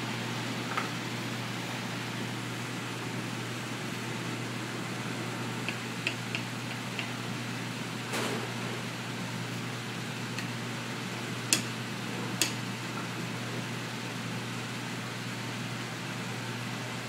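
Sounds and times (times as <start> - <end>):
ventilation fan humming: 0.0 - 17.0.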